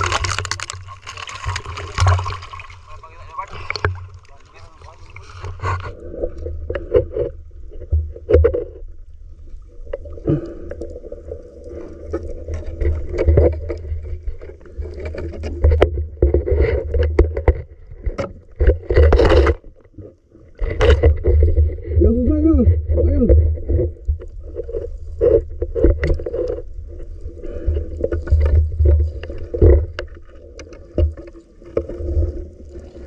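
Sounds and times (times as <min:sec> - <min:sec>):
knocks and clicks underwater: 0:00.0 - 0:33.0
muffled underwater rumble: 0:00.0 - 0:33.0.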